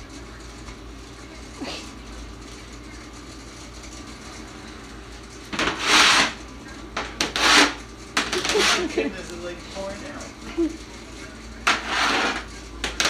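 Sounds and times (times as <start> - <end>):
dishwasher humming: 0.0 - 13.0.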